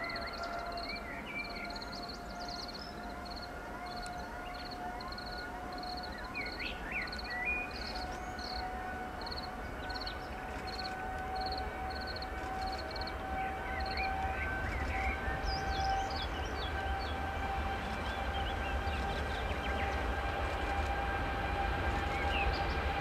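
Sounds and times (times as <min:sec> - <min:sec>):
birds chirping: 0:00.0 - 0:20.7
jet engines whining: 0:00.0 - 0:23.0.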